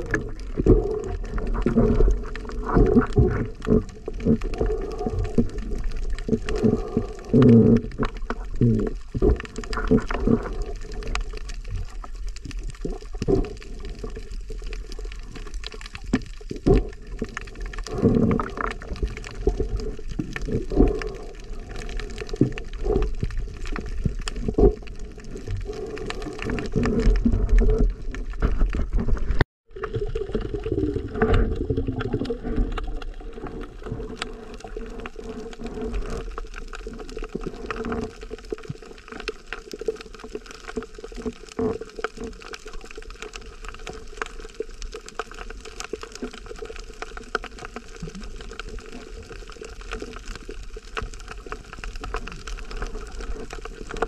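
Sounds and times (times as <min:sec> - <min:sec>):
underwater water rushing: 0:00.0 - 0:54.0.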